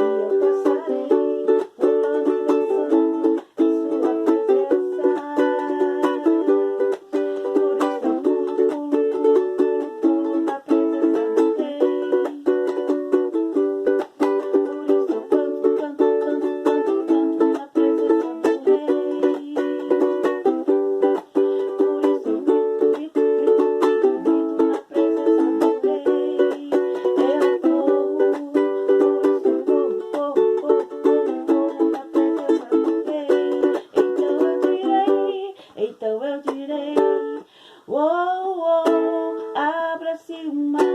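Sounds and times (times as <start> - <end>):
ukulele strummed fast: 0.0 - 35.4.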